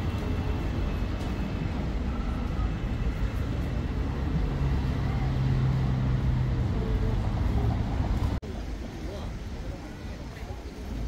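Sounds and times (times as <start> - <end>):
tram rumbling with hum: 0.0 - 11.0.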